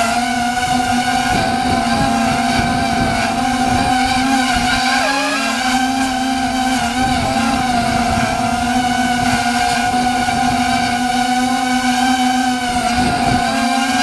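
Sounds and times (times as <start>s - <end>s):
drone motors whining: 0.0s - 14.0s
wind buffeting microphone: 0.0s - 14.0s.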